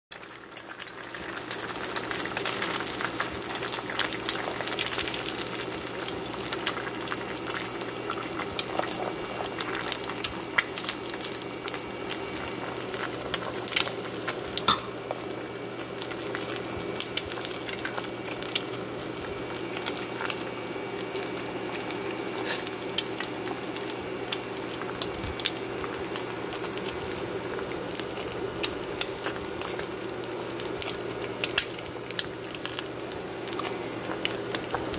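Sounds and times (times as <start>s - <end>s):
eggs sizzling in oil: 0.1s - 34.9s.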